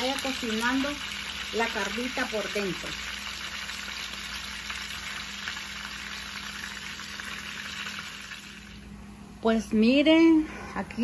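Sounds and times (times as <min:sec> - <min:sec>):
fish sizzling in hot oil: 0:00.0 - 0:08.9.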